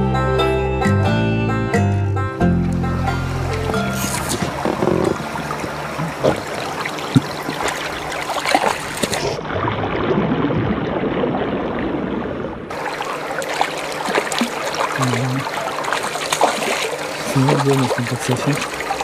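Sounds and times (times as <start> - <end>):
fish splashing in river: 3.2 - 19.0.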